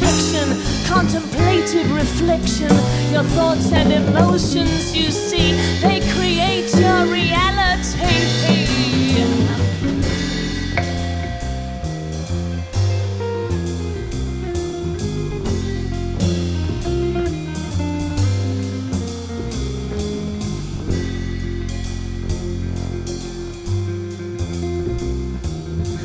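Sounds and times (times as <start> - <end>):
drum kit steady beat: 0.0 - 26.0
guitar: 0.0 - 26.0.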